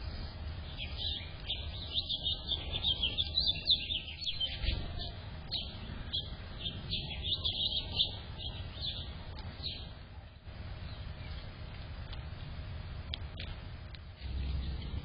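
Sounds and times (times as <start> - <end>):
songbirds chirping: 0.0 - 15.0
steady low rumble: 0.0 - 15.0.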